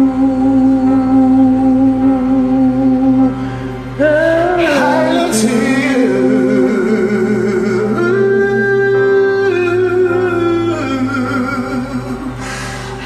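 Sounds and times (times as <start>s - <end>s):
karaoke backing track: 0.0s - 13.0s.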